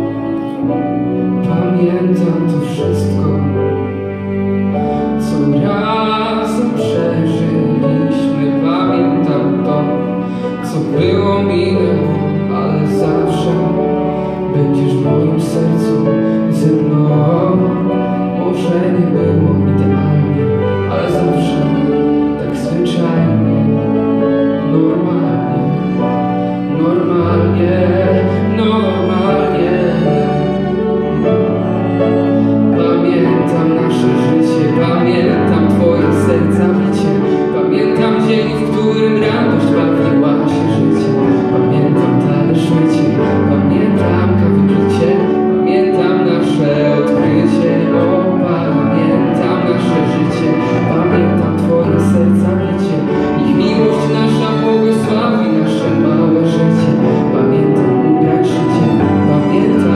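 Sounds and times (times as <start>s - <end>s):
cello: 0.0s - 59.9s
grand piano: 0.0s - 59.9s
man singing: 0.0s - 59.9s
violin: 0.0s - 59.9s.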